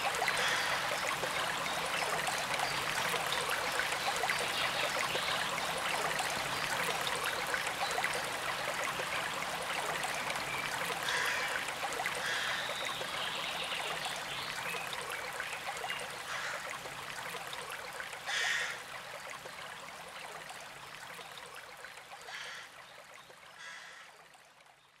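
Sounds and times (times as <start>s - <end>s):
stream running: 0.0s - 25.0s.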